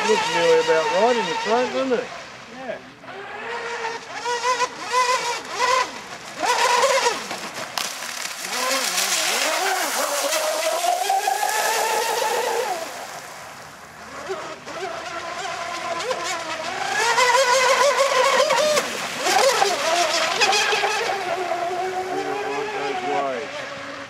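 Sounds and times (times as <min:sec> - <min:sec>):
rc boat motor whine: 0:00.0 - 0:24.0.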